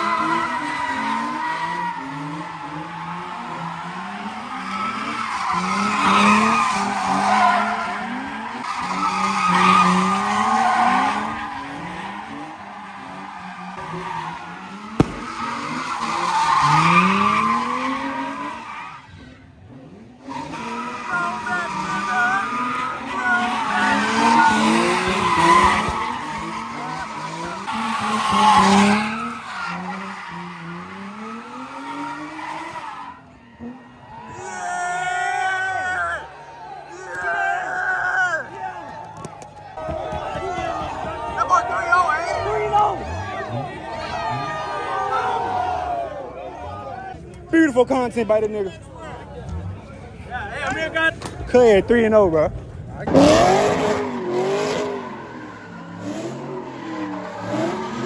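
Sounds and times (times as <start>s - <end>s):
car engines revving: 0.0s - 58.0s
tires screeching: 0.0s - 58.0s.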